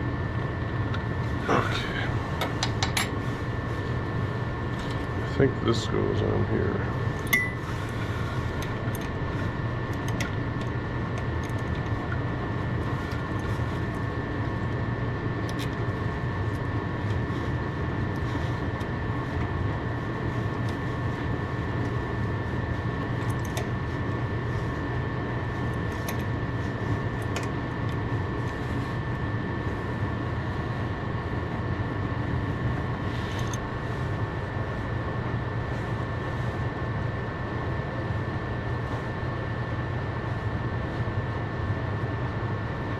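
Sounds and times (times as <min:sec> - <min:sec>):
mechanical hum with whine: 0:00.0 - 0:42.9.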